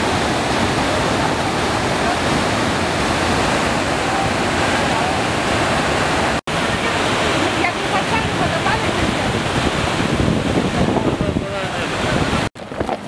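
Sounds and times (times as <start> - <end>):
river rushing over rocks: 0.0 - 13.0
waterfall roaring: 0.0 - 13.0.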